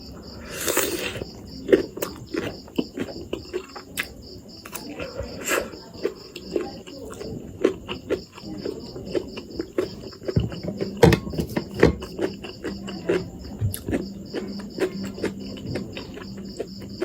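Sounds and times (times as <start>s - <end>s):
cricket chirping: 0.0s - 17.0s
mouth clicks and smacks eating: 0.7s - 11.0s, 11.6s - 17.0s.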